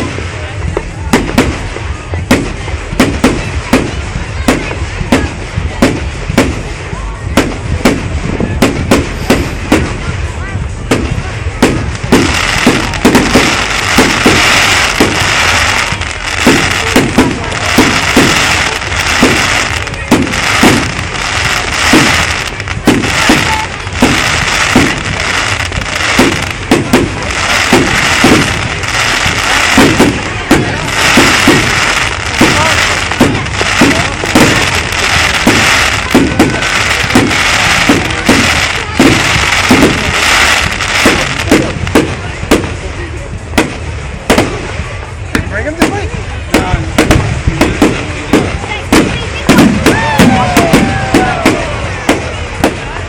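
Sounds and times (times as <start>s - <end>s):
fireworks bangs: 0.0s - 53.0s
fireworks crackle and hiss: 0.0s - 53.0s.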